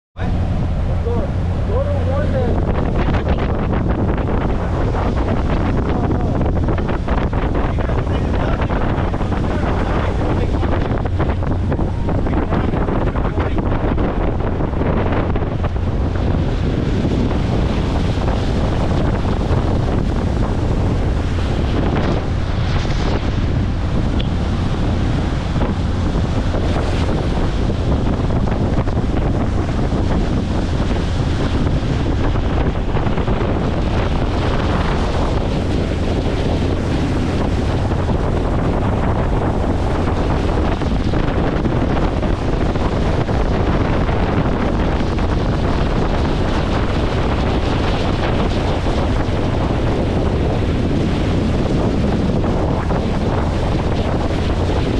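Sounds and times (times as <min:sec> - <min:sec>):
water rushing: 0:00.2 - 0:54.9
wind buffeting microphone: 0:00.2 - 0:54.9.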